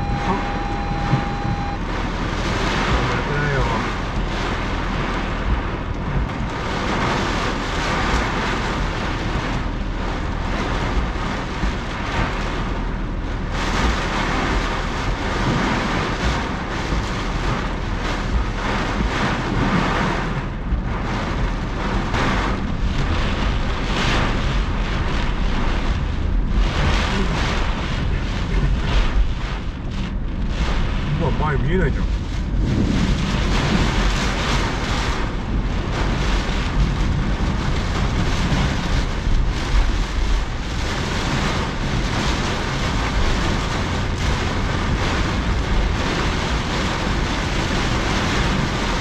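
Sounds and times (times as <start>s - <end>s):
gusting wind: 0.0s - 49.0s
heavy rain on car roof: 0.0s - 49.0s
low car rumble: 0.0s - 49.0s.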